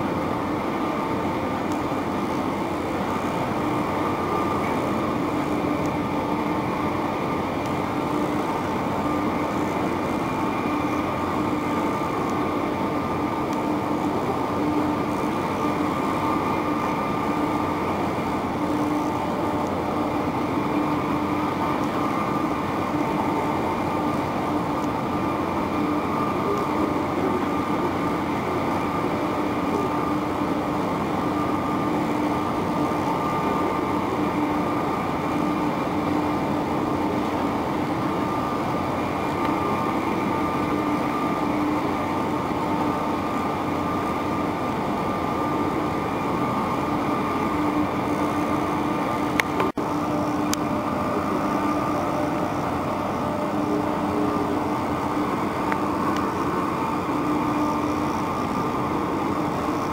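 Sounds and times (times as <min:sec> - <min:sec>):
ship engines droning: 0:00.0 - 0:59.9.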